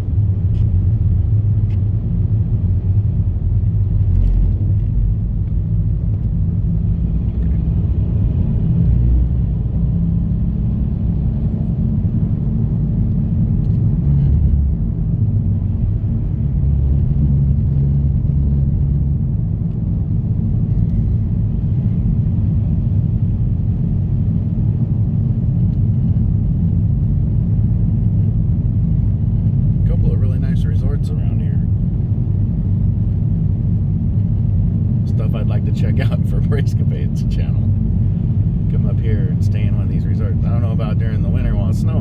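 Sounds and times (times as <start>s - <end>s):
car driving on snow: 0.0s - 42.0s.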